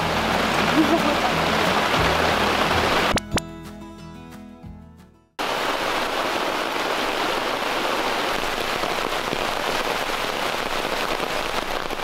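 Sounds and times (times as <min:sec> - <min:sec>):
heavy rain: 0:00.0 - 0:03.2, 0:05.4 - 0:12.0.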